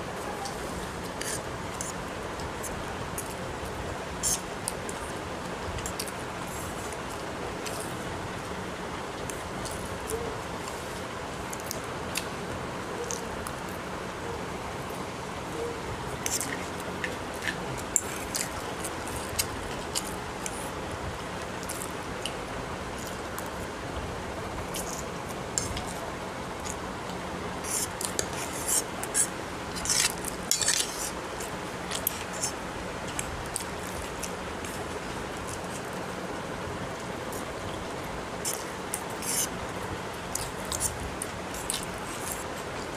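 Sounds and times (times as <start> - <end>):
steady background hiss: 0.0 - 42.9.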